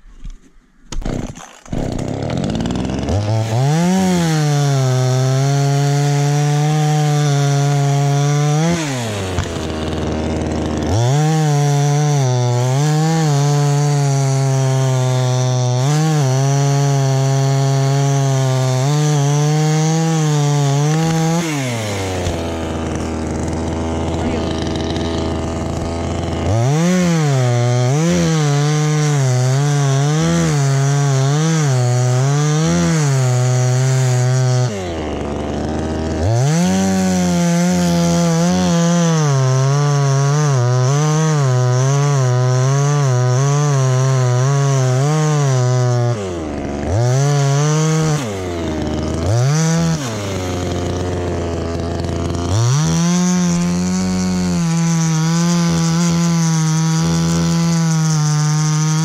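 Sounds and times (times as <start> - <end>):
chainsaw revving and cutting wood: 0.9 - 59.0.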